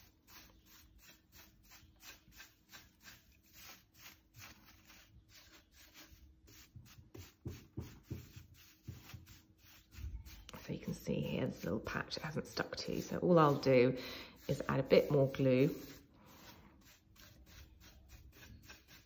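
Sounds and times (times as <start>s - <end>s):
paintbrush brushing flakes: 0.0s - 19.0s.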